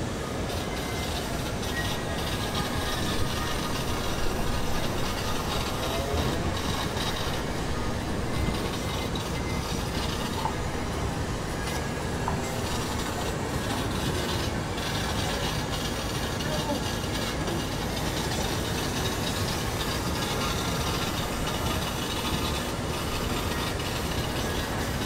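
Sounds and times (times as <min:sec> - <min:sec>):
steam vehicle rumble and rattle: 0:00.0 - 0:25.0.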